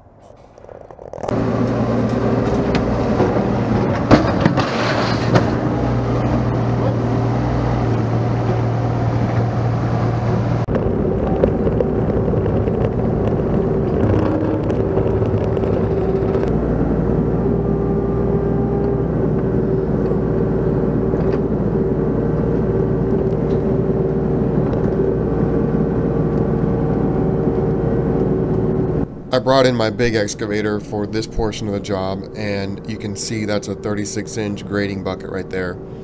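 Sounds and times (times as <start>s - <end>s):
excavator diesel engine running: 0.3s - 36.0s.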